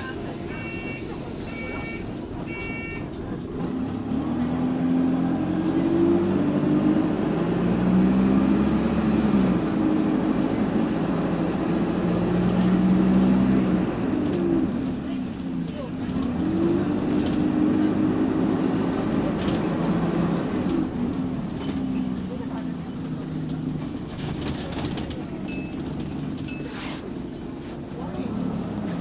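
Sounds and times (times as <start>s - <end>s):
bus diesel engine accelerating: 0.0s - 29.0s.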